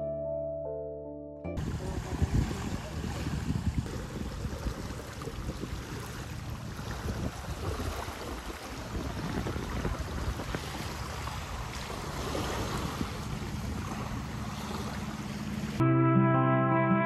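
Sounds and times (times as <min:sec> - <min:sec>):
waves lapping on shore: 0:01.6 - 0:15.8
wind buffeting microphone: 0:01.6 - 0:15.8.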